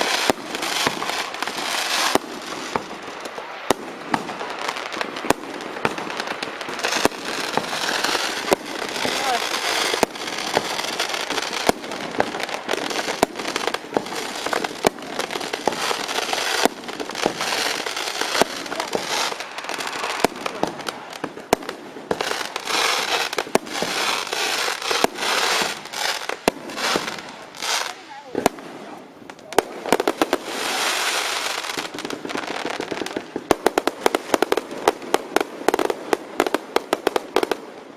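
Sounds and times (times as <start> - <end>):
firecrackers crackling: 0.0 - 37.9
firework bangs: 0.0 - 37.9.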